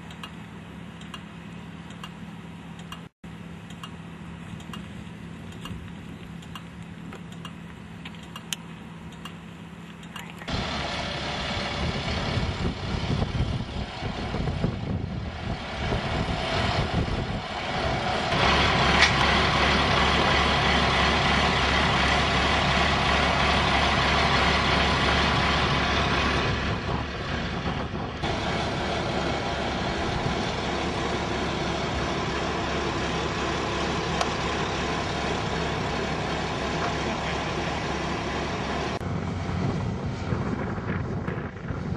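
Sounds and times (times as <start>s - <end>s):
heavy vehicle engine running: 0.0s - 41.9s.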